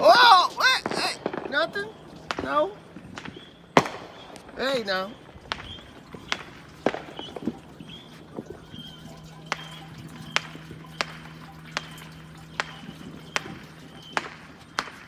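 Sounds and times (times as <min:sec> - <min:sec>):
distant firework pops: 0:00.0 - 0:15.0.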